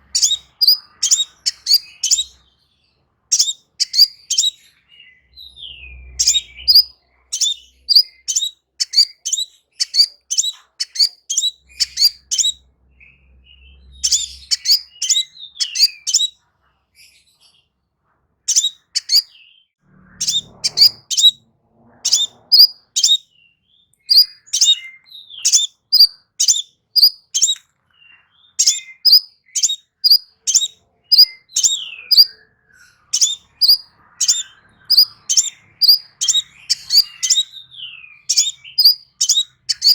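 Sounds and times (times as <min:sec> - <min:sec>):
bird chirping rapidly: 0:00.0 - 0:02.5, 0:03.3 - 0:04.6, 0:05.6 - 0:16.4, 0:18.5 - 0:19.4, 0:20.1 - 0:21.4, 0:22.1 - 0:23.4, 0:24.1 - 0:27.6, 0:28.4 - 0:39.9.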